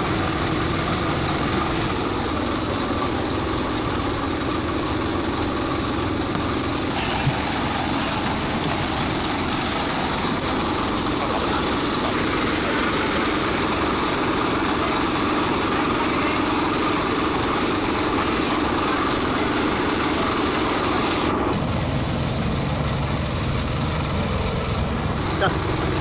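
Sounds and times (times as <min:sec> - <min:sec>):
loud steady background noise: 0:00.0 - 0:26.0.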